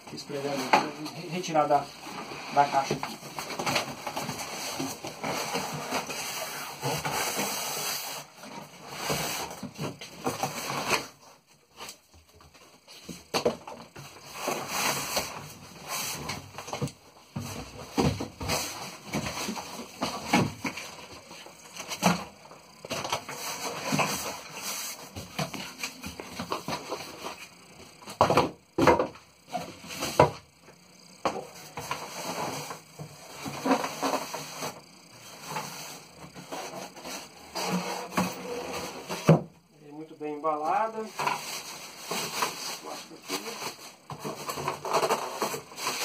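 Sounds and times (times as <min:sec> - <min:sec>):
packaging rustling and scraping: 0:00.1 - 0:39.4, 0:40.8 - 0:46.0.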